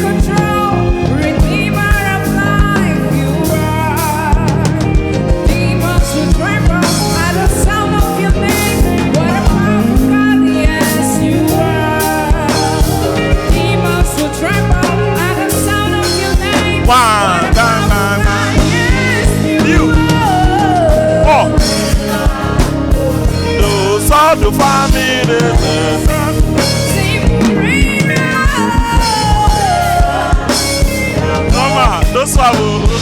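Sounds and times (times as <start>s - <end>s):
choir singing: 0.0s - 4.2s, 5.5s - 33.0s
bass: 0.0s - 33.0s
drum kit beat: 0.0s - 33.0s
guitar: 0.0s - 33.0s.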